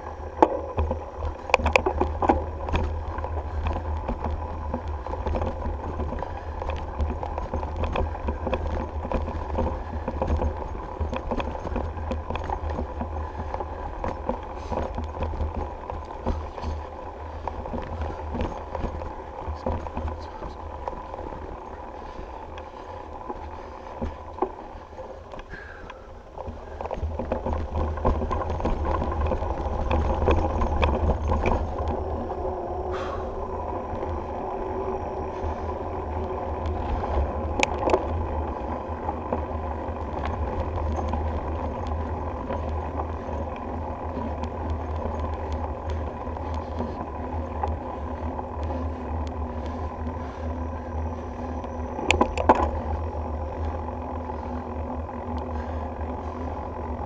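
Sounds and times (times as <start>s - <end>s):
bicycle tyre noise: 0.0s - 57.0s
bike rattling and knocking: 0.0s - 57.0s
wind rumbling on microphone: 0.0s - 57.0s.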